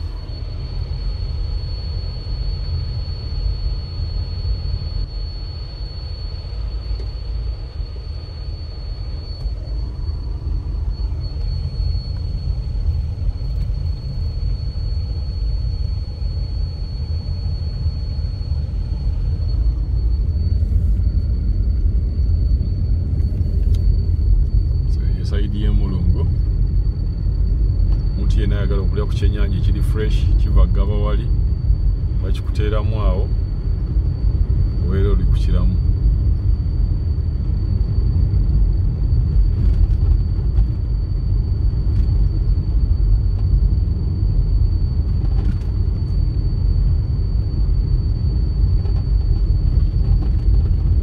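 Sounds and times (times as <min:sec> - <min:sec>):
engine and tyre rumble: 0:00.0 - 0:51.0
high-pitched whine: 0:00.0 - 0:51.0.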